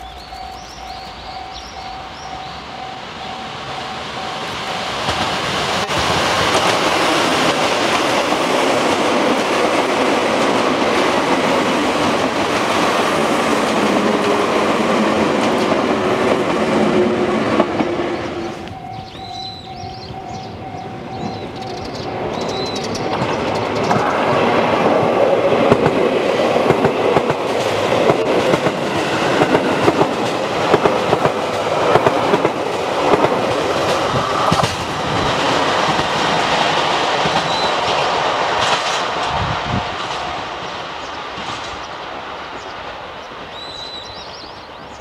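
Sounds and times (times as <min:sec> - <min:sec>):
wheels clicking over rail joints: 0:00.0 - 0:42.0
electric train passing: 0:00.0 - 0:45.0.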